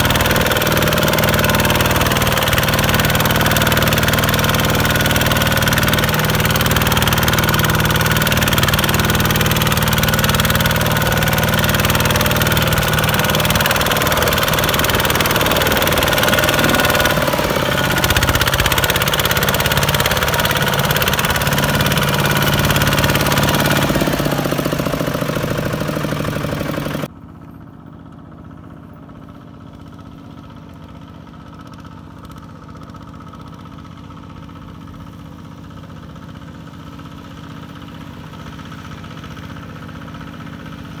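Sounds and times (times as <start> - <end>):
diesel tractor engine running: 0.0 - 41.0.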